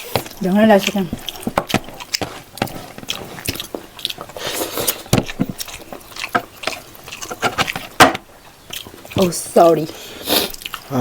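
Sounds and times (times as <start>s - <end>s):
wet chewing and smacking: 0.0s - 11.0s.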